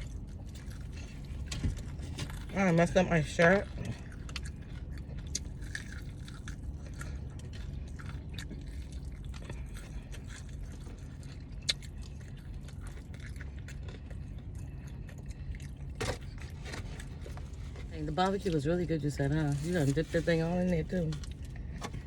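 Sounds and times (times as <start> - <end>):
chewing crunchy food: 0.0 - 22.0
low hum: 0.0 - 22.0.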